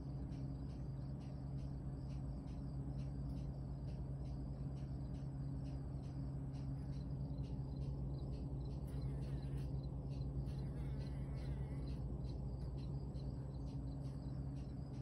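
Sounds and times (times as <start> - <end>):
insect chirping: 0.0 - 15.0
steady low hum: 0.0 - 15.0.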